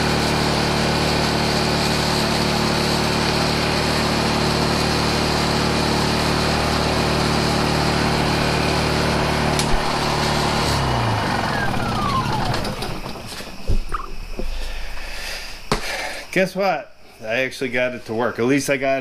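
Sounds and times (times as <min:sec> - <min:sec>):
generator engine running: 0:00.0 - 0:16.1.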